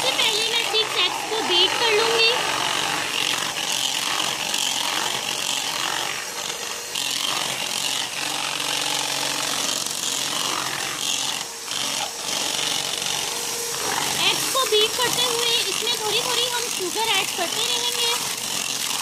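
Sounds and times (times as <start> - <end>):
electric hand mixer whisking eggs: 0.0 - 19.0.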